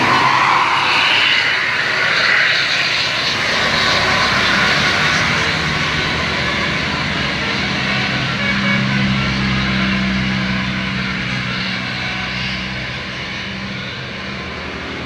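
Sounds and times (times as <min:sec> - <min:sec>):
large diesel vehicle passing: 0:00.0 - 0:15.0.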